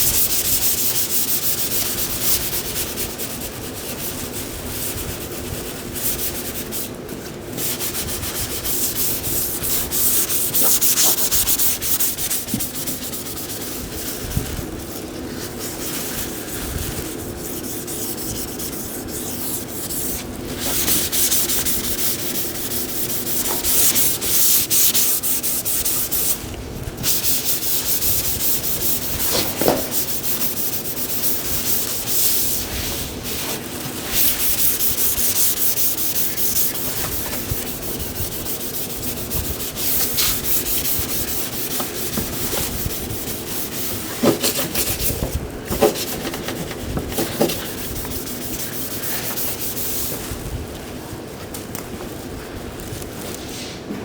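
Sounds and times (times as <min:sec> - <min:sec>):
sanding car body panel: 0:00.0 - 0:07.0, 0:07.6 - 0:26.4, 0:27.0 - 0:50.2.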